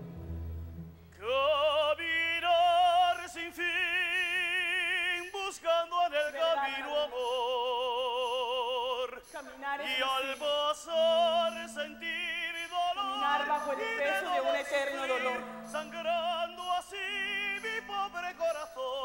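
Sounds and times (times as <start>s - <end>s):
operatic voice singing: 1.2s - 19.0s.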